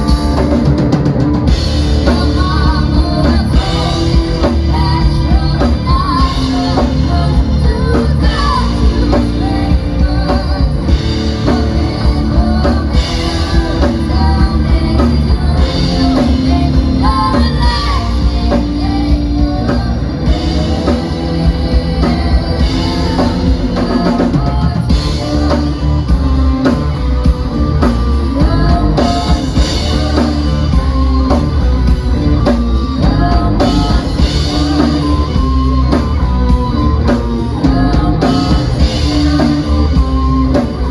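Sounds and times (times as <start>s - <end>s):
rock band playing loudly: 0.0s - 40.9s
person singing: 1.6s - 40.9s.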